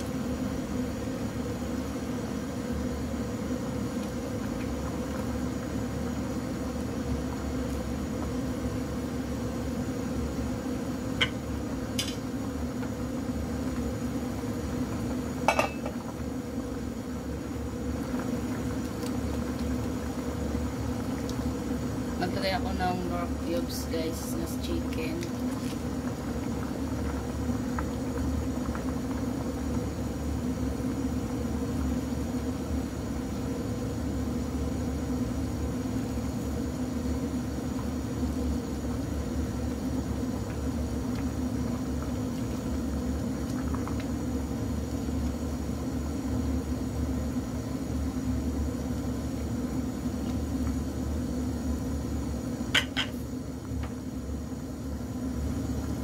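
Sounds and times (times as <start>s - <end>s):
gas burner rumble: 0.0s - 56.0s
soup bubbling in a pot: 0.0s - 56.0s.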